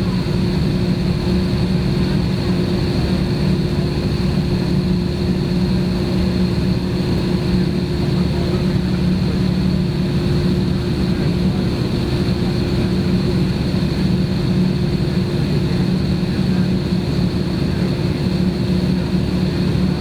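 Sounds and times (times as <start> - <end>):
jet engines idling in cabin: 0.0 - 20.0.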